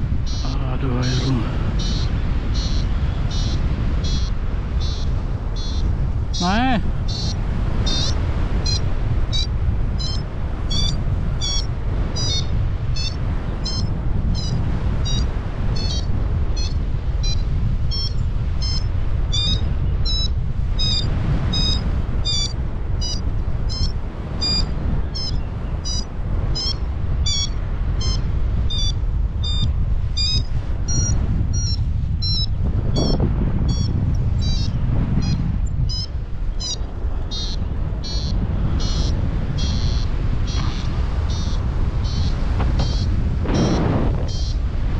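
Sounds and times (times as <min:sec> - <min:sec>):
wind noise on microphone: 0:00.0 - 0:44.9
variometer beeping: 0:00.1 - 0:44.6.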